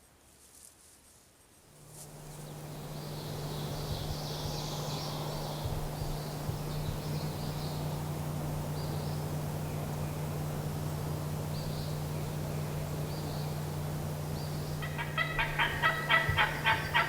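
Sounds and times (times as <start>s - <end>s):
steady low hum: 1.4s - 17.0s
faint bird song chirping: 2.3s - 17.0s.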